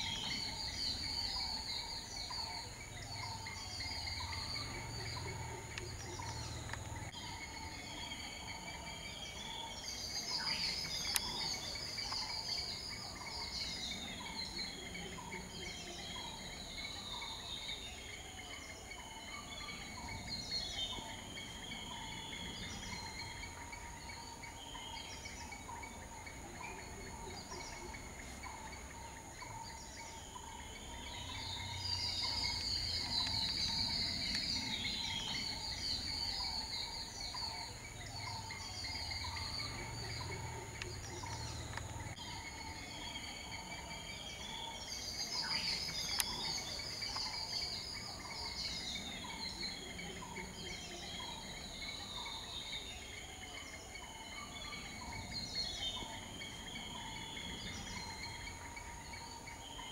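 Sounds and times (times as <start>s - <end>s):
birds chirping and twittering: 0.0s - 59.9s
high-pitched insect drone: 0.0s - 59.9s.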